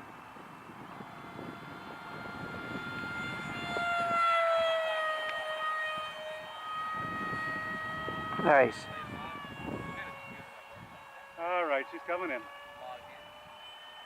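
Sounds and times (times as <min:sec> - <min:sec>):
rc jet fan whining: 0:00.0 - 0:14.0.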